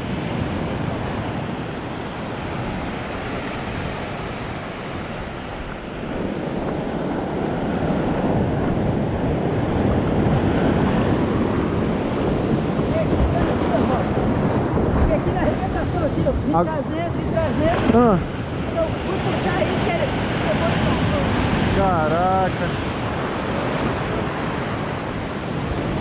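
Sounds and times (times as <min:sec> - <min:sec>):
surf breaking on rocky shore: 0:00.0 - 0:26.0
wind on microphone: 0:00.0 - 0:26.0.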